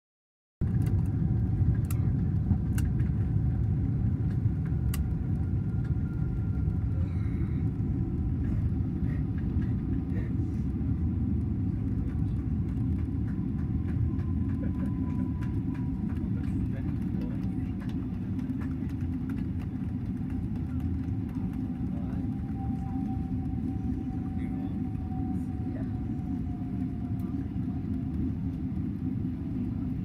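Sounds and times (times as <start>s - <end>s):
vehicle low rumble: 0.6s - 30.0s.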